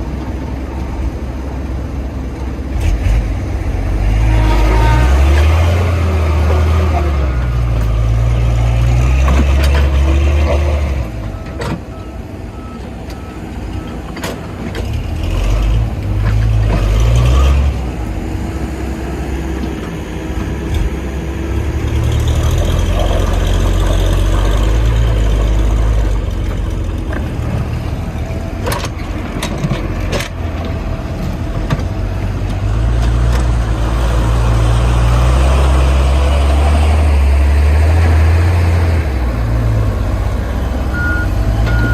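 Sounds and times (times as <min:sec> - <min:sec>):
heavy diesel engines under load: 0:00.0 - 0:41.9.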